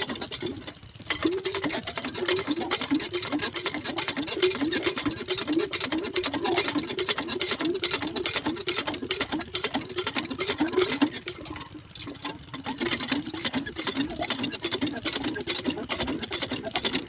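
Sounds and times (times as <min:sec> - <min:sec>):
small diesel engine clattering: 0:00.0 - 0:17.0.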